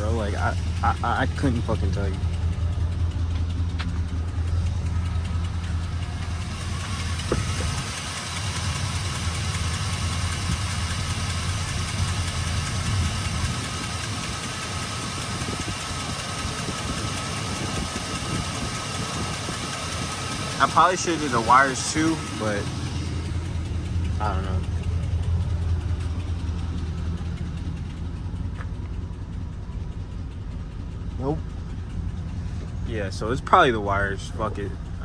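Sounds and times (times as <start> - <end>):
truck engine idling and misfiring: 0.0 - 35.0.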